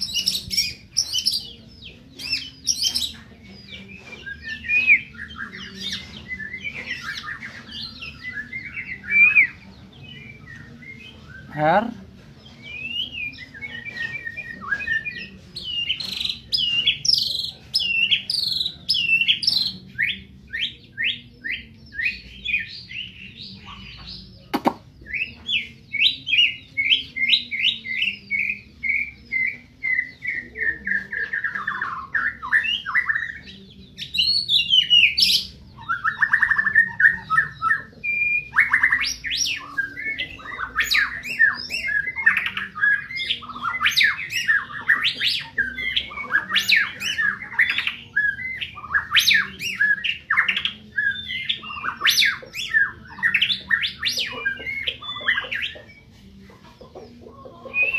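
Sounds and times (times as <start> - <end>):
bird singing whistling song: 0.0 - 11.8, 12.5 - 56.1.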